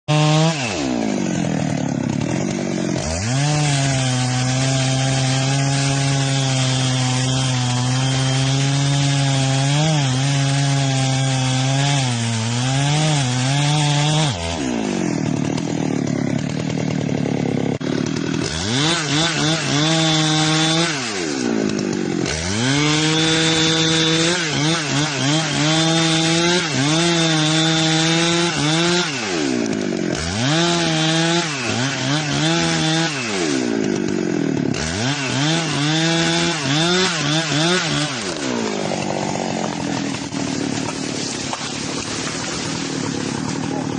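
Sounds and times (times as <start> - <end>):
chainsaw cutting wood: 0.1 - 43.9.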